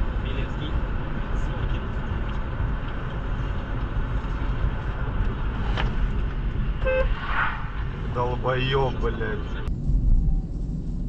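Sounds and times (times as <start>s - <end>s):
road and engine noise in car: 0.0s - 11.0s.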